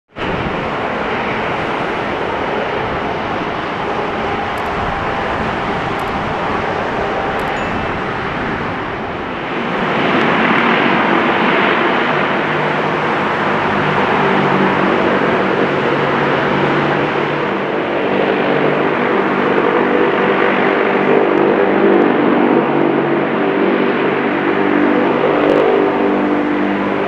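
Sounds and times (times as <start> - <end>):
turboprop aircraft engines roaring: 0.1 - 27.0.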